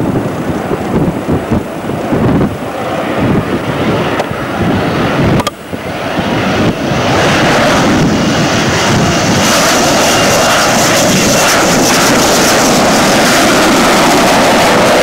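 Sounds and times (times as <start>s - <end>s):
jet engines rushing with high whine: 0.0s - 15.0s
wind buffeting microphone: 0.0s - 15.0s.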